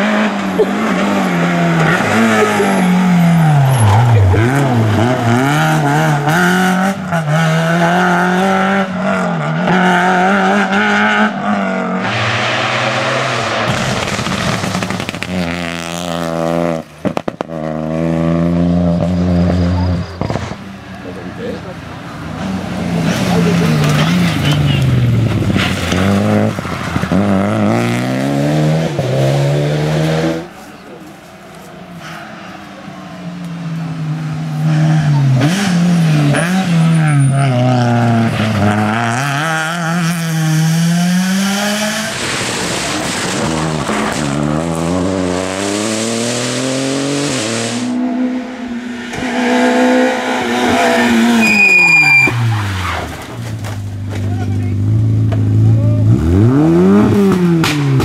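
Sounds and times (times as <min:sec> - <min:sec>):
rally car engine at high revs: 0:00.0 - 0:20.6, 0:21.3 - 0:30.9, 0:33.4 - 0:53.8, 0:54.6 - 0:58.0.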